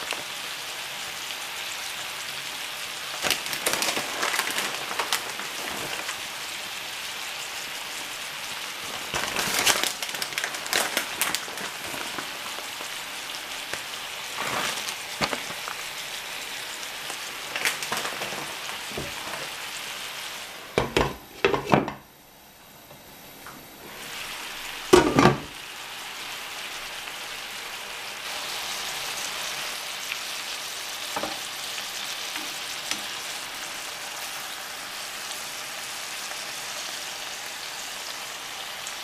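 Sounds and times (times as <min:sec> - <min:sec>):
food sizzling in a frying pan: 0:00.0 - 0:22.1, 0:23.7 - 0:39.0.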